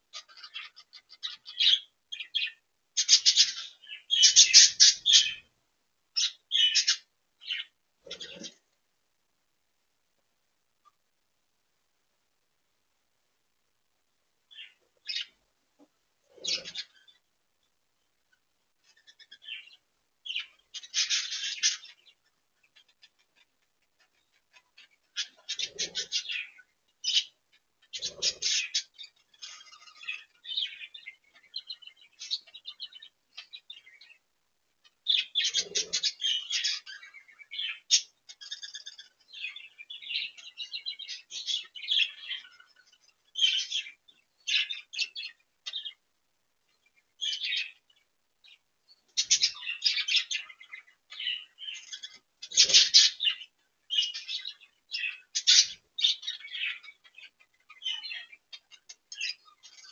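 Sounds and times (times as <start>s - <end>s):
budgerigars chattering and chirping: 0.0s - 5.5s, 6.2s - 8.6s, 14.5s - 15.4s, 16.3s - 17.2s, 18.8s - 34.2s, 34.8s - 46.0s, 47.2s - 59.9s.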